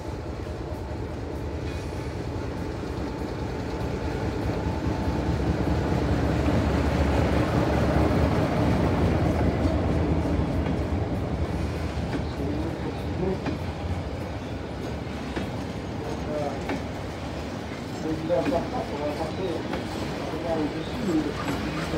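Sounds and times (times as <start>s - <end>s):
diesel locomotive running: 0.0s - 21.9s
train wheels on rails: 0.0s - 21.9s.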